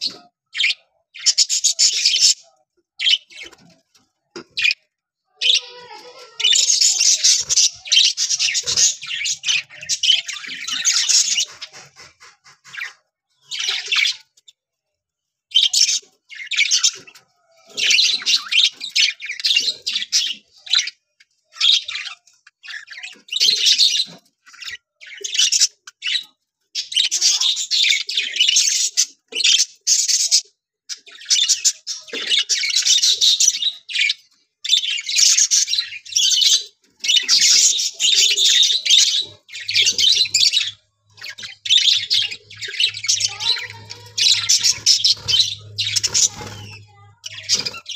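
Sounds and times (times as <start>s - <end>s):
budgerigars chattering and chirping: 0.0s - 14.6s, 15.5s - 47.9s.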